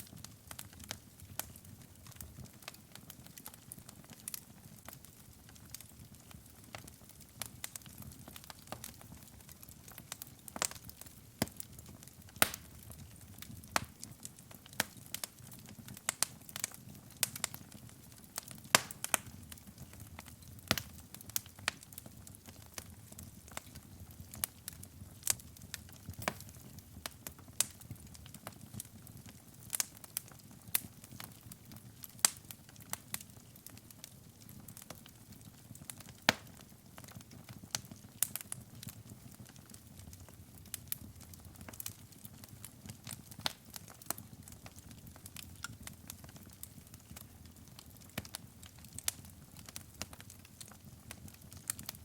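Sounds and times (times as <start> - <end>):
fire crackles and pops: 0.0 - 52.0
wood fire flames rumbling: 0.1 - 52.0.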